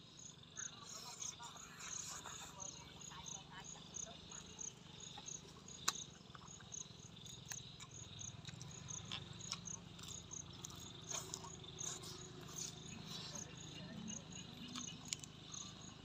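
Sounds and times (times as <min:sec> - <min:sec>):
insects chirping: 0:00.0 - 0:16.0
chewing: 0:00.6 - 0:03.2, 0:04.1 - 0:16.0.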